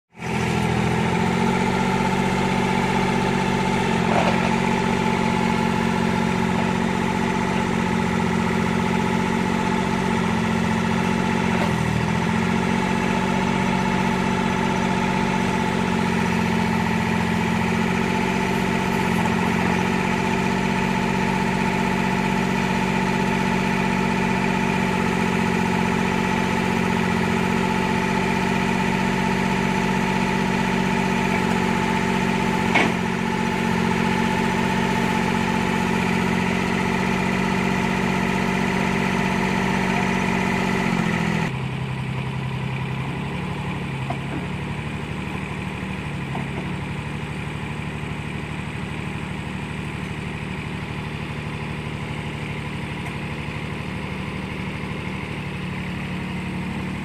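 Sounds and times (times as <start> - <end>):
excavator engine running: 0.1 - 57.0.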